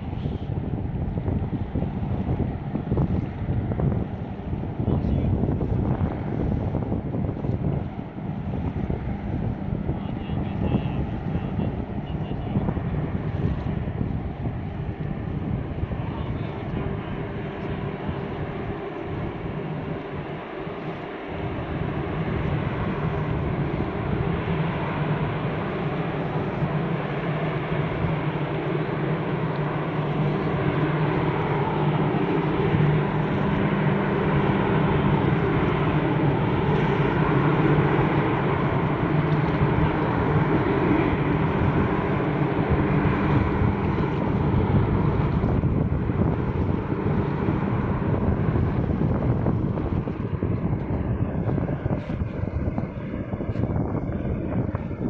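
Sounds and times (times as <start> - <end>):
boat engine drone: 0.0 - 55.0
wind and water noise: 0.0 - 55.0.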